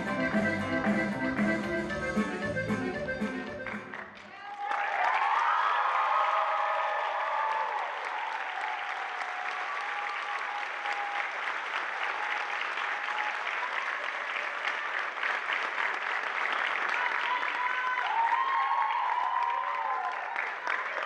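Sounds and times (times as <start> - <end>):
audience applauding: 3.2 - 21.0.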